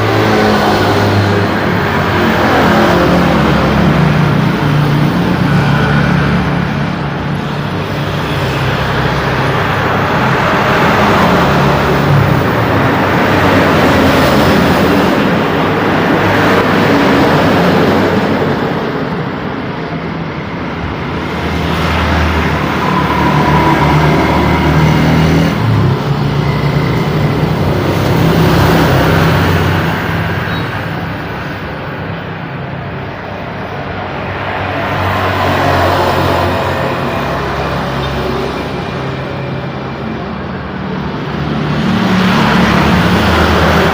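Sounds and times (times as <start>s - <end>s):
vehicles passing close by: 0.0s - 43.9s.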